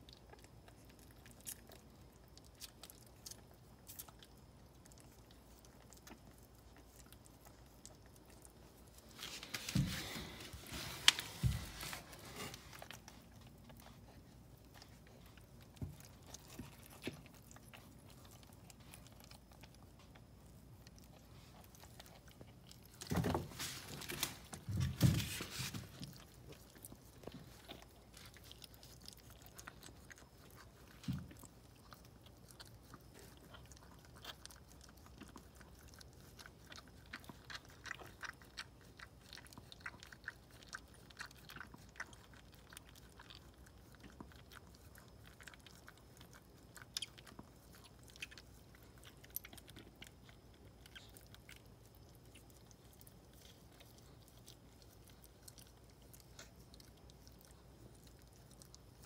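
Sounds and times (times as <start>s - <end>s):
dog licking puppies: 0.0s - 59.0s.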